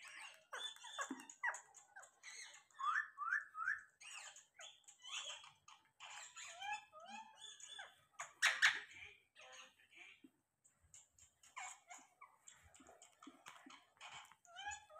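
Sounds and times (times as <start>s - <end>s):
parakeet squawk: 0.0s - 10.2s, 10.9s - 14.9s
parakeets chattering: 0.0s - 14.9s.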